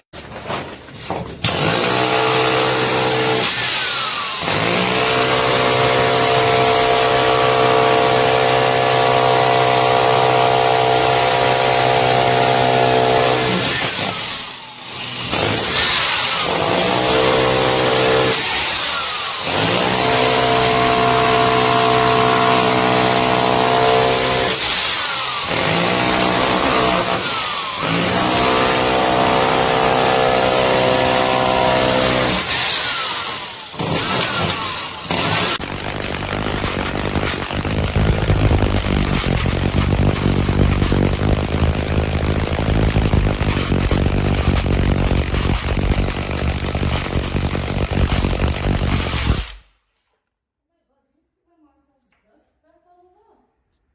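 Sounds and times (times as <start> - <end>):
rotary hammer drill running: 1.5 - 49.7.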